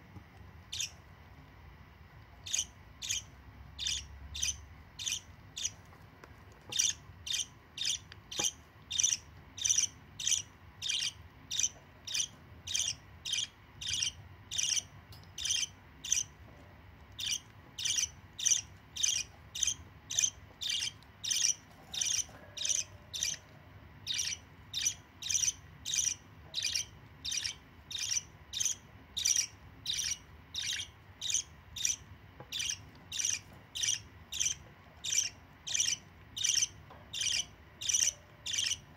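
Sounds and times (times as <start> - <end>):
budgerigar begging chirps: 2.5 - 5.8, 6.8 - 16.3, 17.2 - 23.4, 24.1 - 38.9.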